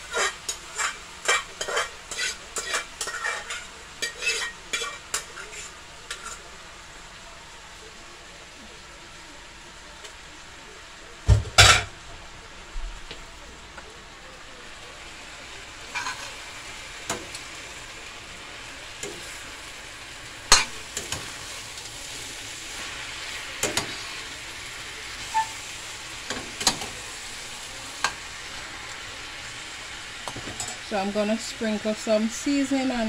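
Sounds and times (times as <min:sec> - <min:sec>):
cabbage sizzling in pan: 0:00.0 - 0:33.0.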